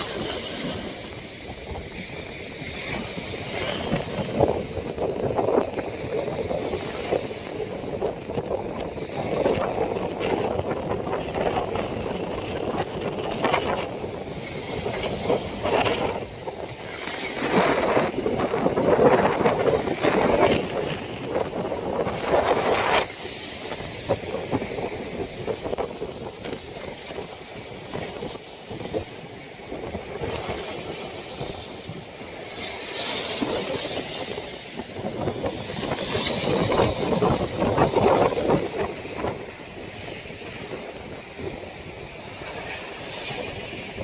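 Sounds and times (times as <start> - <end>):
storm wind gusting: 0.0 - 44.0.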